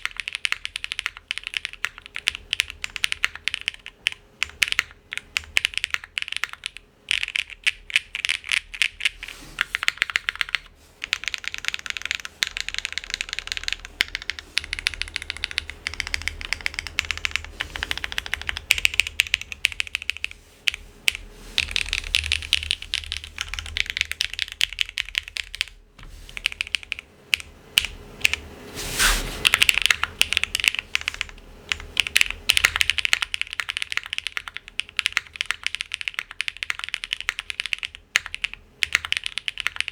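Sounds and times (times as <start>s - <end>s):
mechanical keyboard typing: 0.0s - 25.7s, 26.3s - 28.4s, 29.4s - 39.9s.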